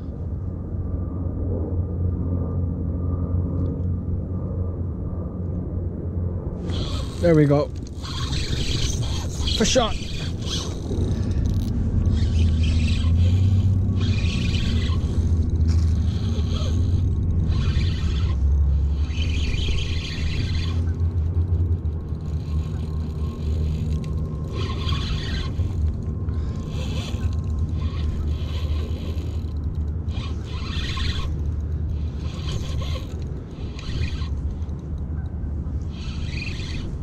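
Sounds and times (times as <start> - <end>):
low rumble: 0.0 - 30.2
fishing reel whirring: 6.6 - 37.0.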